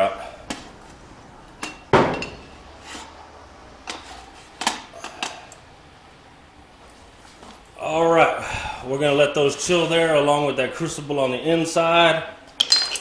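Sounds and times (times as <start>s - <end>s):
metal bars clanking: 0.0s - 13.0s.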